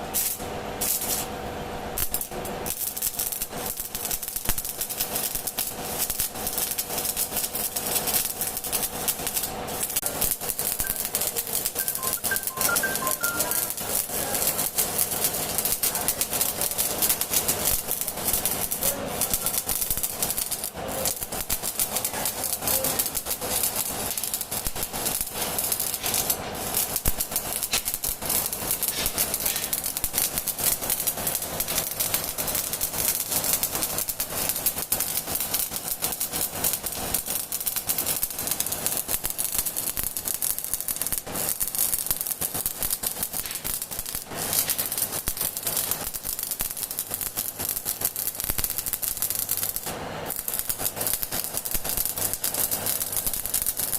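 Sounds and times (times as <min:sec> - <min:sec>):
arc welding crackling: 0:00.0 - 0:53.9.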